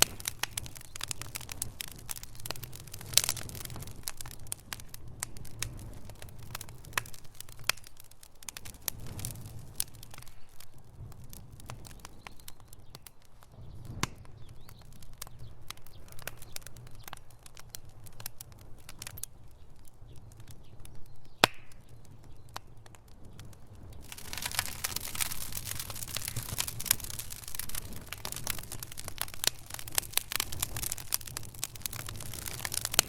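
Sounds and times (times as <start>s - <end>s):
low fire rumble: 0.0s - 33.0s
wood fire crackling: 0.0s - 33.0s.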